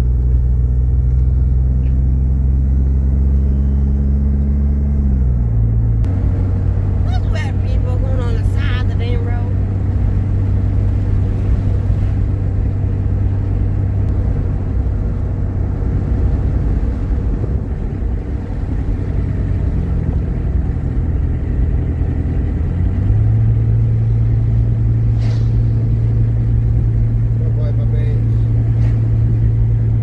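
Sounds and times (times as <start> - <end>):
car engine and road hum: 0.0 - 30.0.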